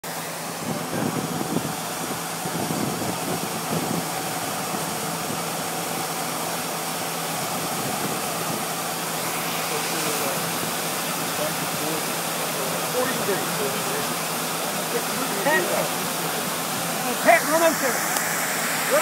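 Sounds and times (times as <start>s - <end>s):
fire engine pump running: 0.0s - 19.0s.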